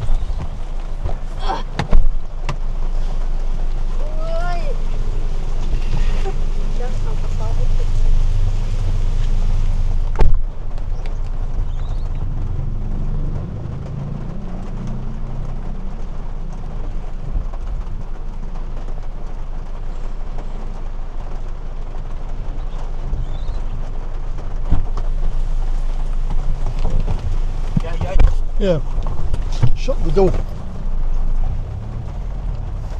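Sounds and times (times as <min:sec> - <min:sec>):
car engine idling: 0:00.0 - 0:32.9
rain noise: 0:00.0 - 0:32.9.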